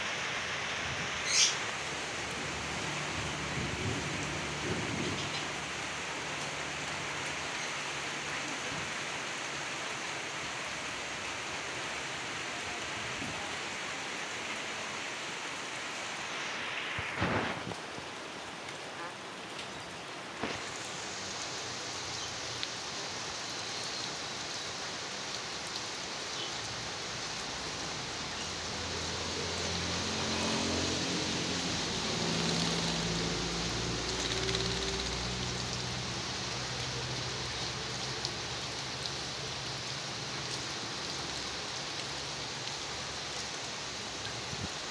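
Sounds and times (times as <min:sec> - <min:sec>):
rain on cage and gravel: 0:00.0 - 0:44.9.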